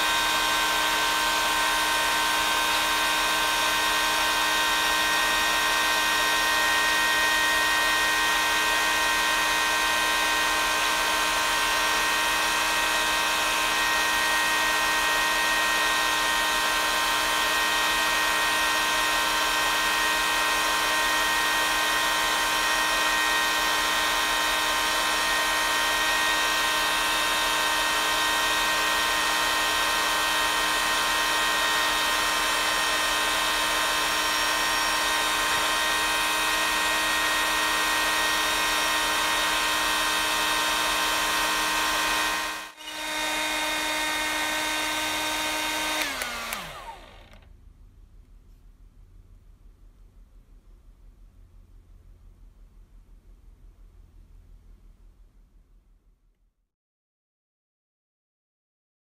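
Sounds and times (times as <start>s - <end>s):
hair dryer running: 0.0s - 47.5s.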